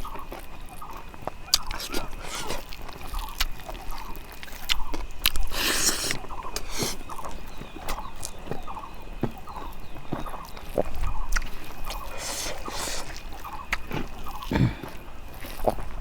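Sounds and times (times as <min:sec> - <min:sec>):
clicks and crunches of eating: 0:00.0 - 0:15.9
chickens clucking: 0:00.8 - 0:15.0.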